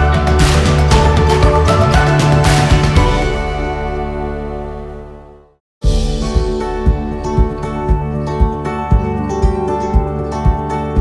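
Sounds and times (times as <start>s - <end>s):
background music with steady beat: 0.0s - 4.9s, 5.8s - 11.0s.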